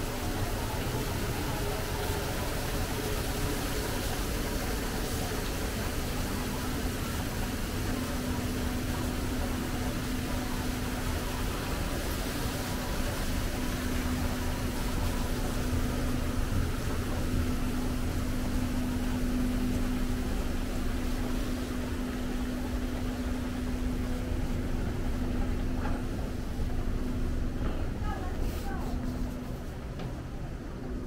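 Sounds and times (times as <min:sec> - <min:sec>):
background hiss and rumble: 0:00.0 - 0:31.0
machine hum with low tone: 0:00.0 - 0:31.0.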